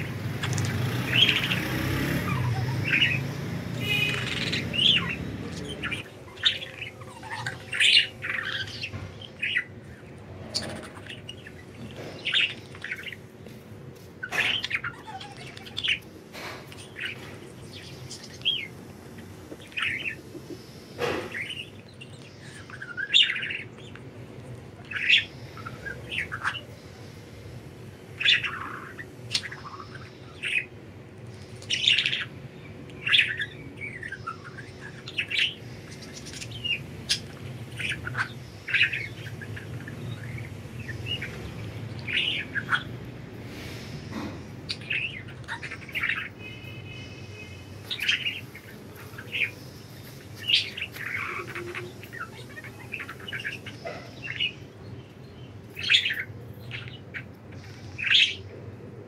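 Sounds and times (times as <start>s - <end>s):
budgerigars chirping: 0.0s - 27.2s, 28.0s - 30.8s, 31.4s - 54.8s, 55.4s - 58.5s.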